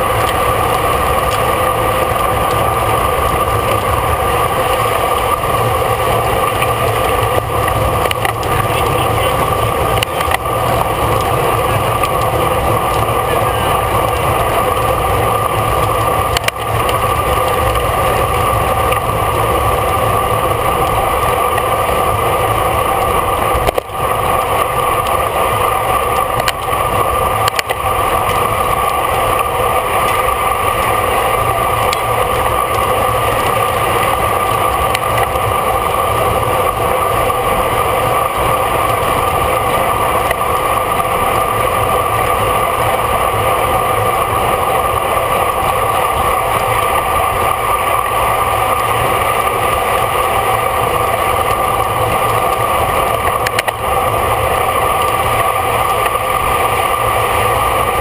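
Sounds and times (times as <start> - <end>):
constant hum: 0.0 - 58.0
road noise: 0.0 - 58.0.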